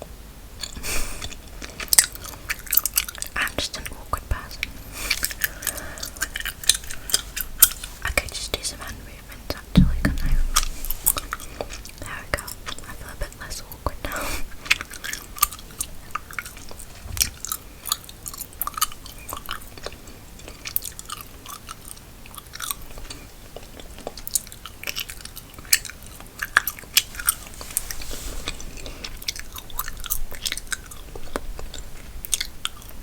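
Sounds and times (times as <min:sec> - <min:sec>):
gum chewing: 0:00.6 - 0:08.9, 0:09.8 - 0:13.0, 0:14.5 - 0:27.7, 0:28.4 - 0:33.0.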